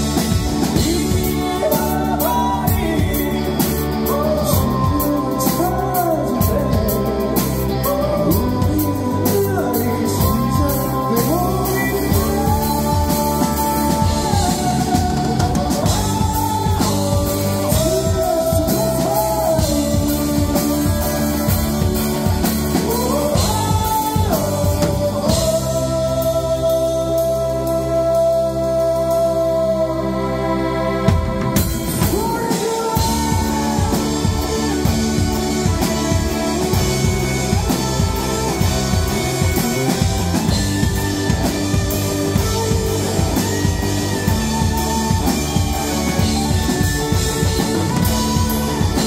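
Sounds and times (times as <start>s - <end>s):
drum kit playing busy beat: 0.0s - 28.6s, 31.1s - 49.0s
live band music: 0.0s - 49.0s.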